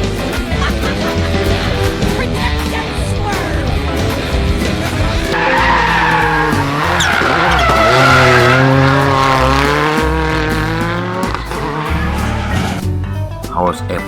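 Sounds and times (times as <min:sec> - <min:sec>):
race car engine revving: 0:00.0 - 0:13.2
background music with bass beat: 0:00.0 - 0:14.0.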